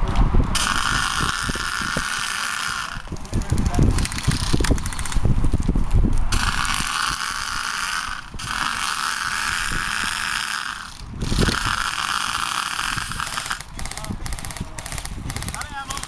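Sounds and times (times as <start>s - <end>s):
low rumbling noise: 0.0s - 15.8s
airsoft minigun buzzing rattle: 0.5s - 5.3s, 6.3s - 16.0s.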